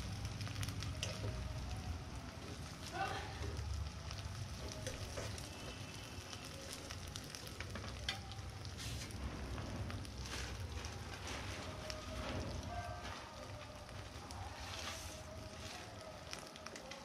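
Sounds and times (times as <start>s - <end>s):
chicken sizzling in wok: 0.0s - 17.0s.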